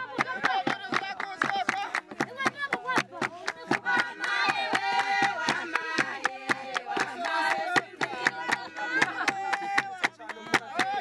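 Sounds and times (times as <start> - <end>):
people singing: 0.0 - 11.0
steady percussive beat: 0.0 - 11.0.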